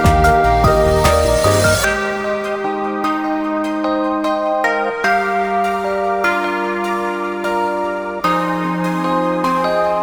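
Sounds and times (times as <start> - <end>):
soft new-age keyboard music: 0.0 - 10.0.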